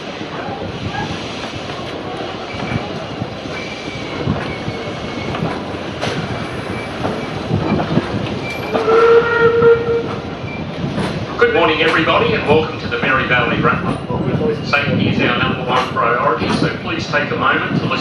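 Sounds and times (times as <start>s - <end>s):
train carriage rushing noise: 0.0s - 18.0s.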